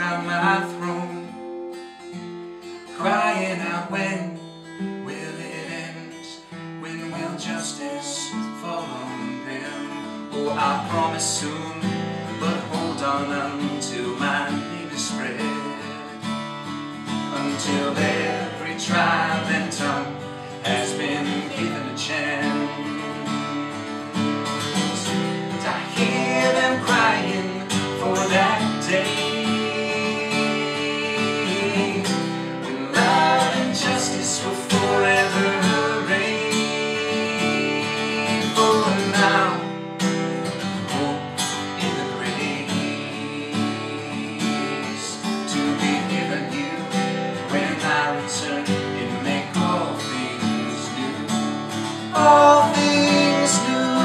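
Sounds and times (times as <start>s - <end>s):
man and woman singing: 0.0s - 1.3s, 2.9s - 4.4s, 5.1s - 16.1s, 17.3s - 39.8s, 40.7s - 54.0s
strummed acoustic guitar: 0.0s - 54.0s.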